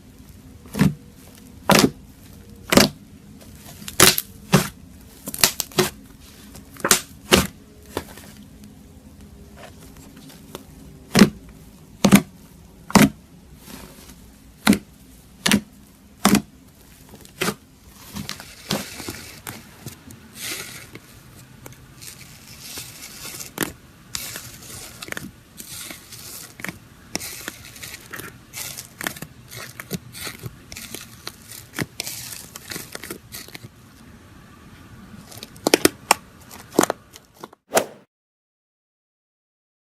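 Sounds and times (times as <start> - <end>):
slime crackling and squelching: 0.1 - 33.8.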